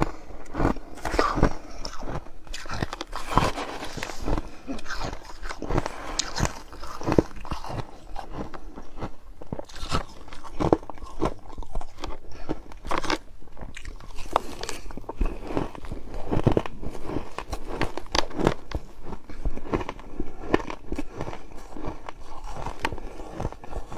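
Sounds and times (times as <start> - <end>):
chewing crushed ice: 0.0 - 23.9.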